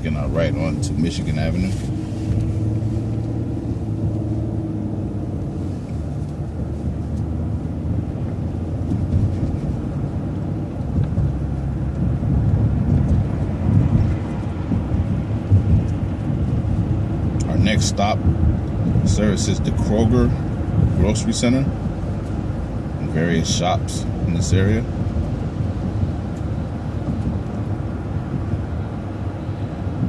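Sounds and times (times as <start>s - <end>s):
bus engine drone: 0.0s - 30.0s
road rumble: 0.0s - 30.0s.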